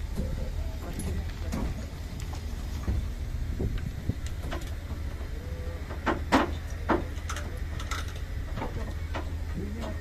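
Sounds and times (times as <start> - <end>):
steady low rumble: 0.0 - 10.0
metal clanks and knocks: 0.1 - 1.9, 2.8 - 10.0.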